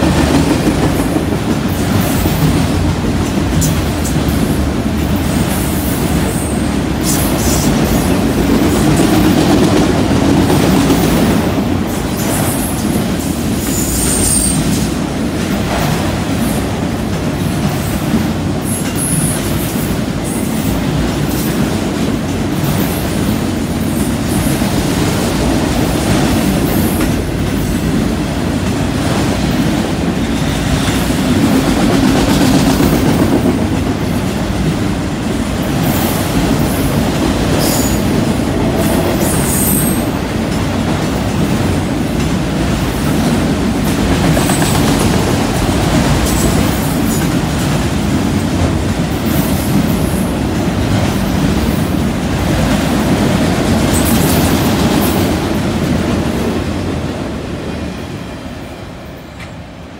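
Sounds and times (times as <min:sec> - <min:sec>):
clickety-clack over rail joints: 0:00.0 - 0:58.3, 0:59.2 - 0:59.9
train wheels rumbling on rail: 0:00.0 - 0:59.9.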